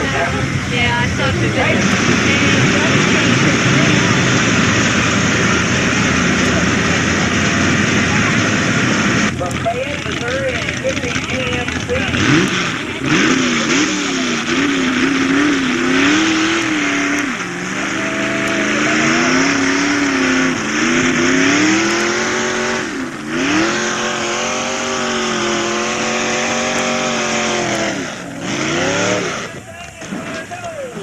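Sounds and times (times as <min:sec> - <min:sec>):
truck engine running under load: 0:00.0 - 0:31.0.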